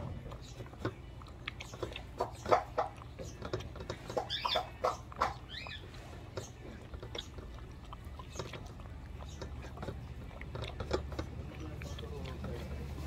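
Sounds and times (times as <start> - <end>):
dog crunching dry kibble: 0.0 - 13.0.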